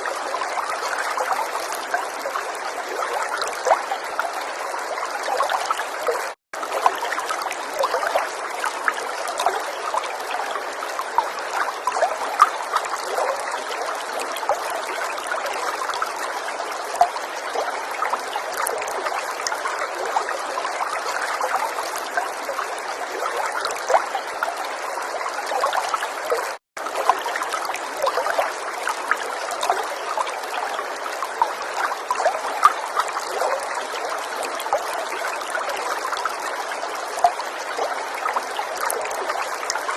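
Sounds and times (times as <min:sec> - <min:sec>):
water falling and trickling: 0:00.0 - 0:39.9.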